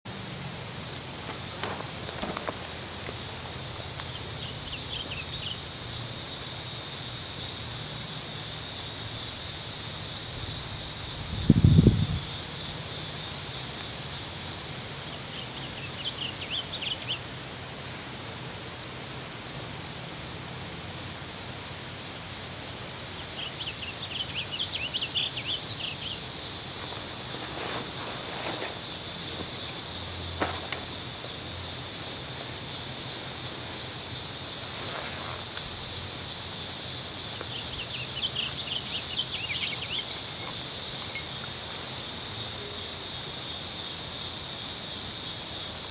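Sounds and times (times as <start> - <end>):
cicadas chorus: 0.1 - 45.9.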